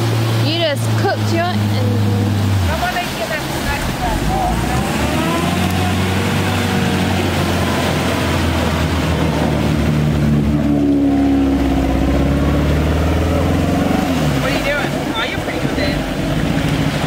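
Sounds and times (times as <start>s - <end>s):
engine running hard: 0.0s - 17.0s
water churning: 0.0s - 17.0s.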